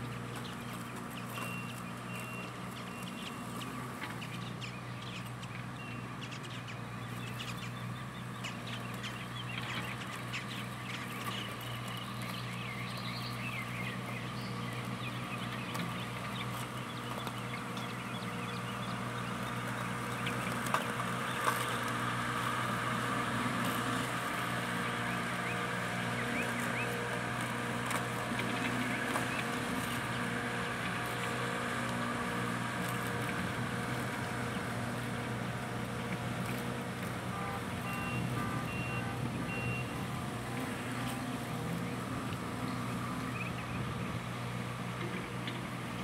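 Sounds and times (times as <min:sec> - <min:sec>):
birds chirping: 0:00.0 - 0:46.0
distant loader engine hum: 0:00.0 - 0:46.0
robot lawn mower whir: 0:00.0 - 0:46.0.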